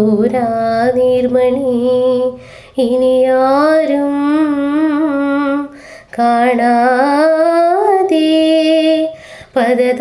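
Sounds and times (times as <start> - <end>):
woman singing: 0.0 - 10.0.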